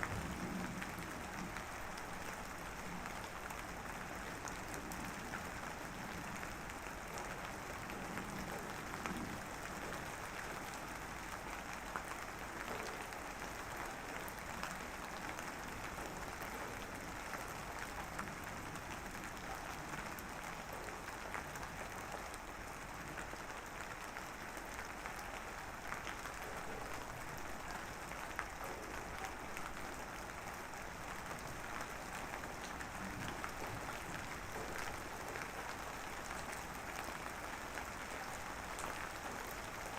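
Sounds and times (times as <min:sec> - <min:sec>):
light drizzle pattering: 0:00.0 - 0:39.9.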